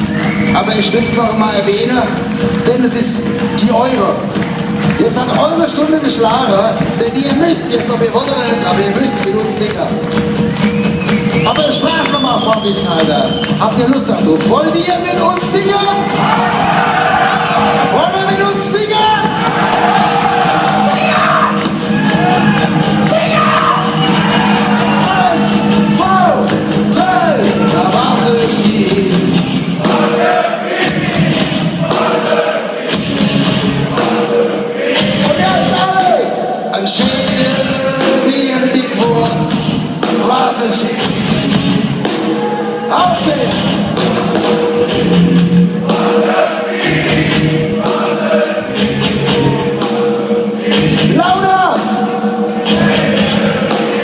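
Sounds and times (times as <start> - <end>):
crowd singing and shouting: 0.0 - 54.0
drum beat: 0.0 - 54.0
live rock band: 0.0 - 54.0.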